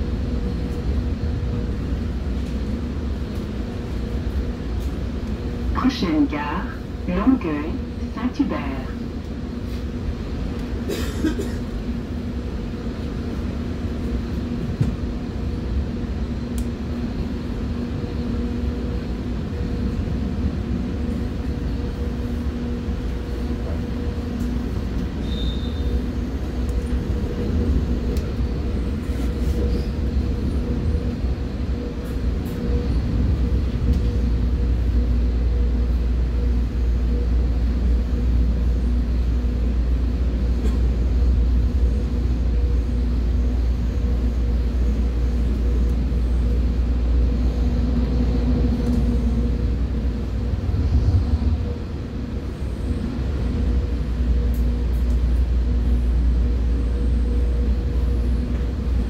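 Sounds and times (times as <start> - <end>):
train rumble from inside carriage: 0.0 - 59.0.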